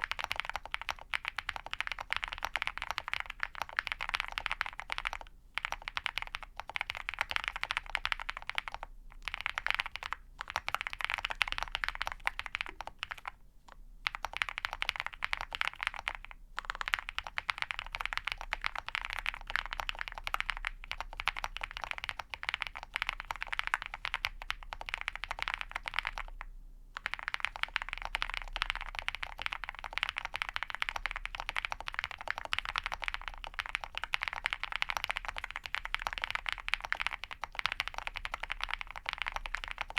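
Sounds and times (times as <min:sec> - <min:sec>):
mechanical keyboard typing: 0:00.0 - 0:26.4, 0:27.0 - 0:39.9.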